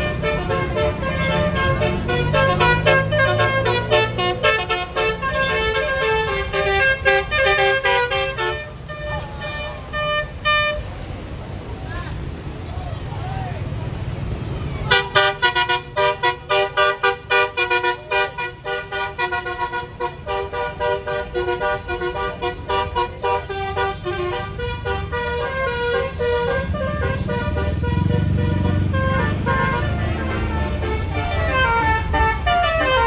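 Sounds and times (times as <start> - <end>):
bus horn playing a tune: 0.0 - 11.0, 14.8 - 33.0
bus engine running: 0.0 - 33.0.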